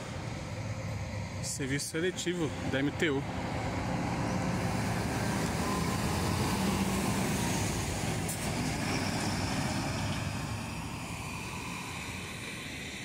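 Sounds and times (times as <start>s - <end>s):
coach diesel engine passing: 0.0s - 13.0s.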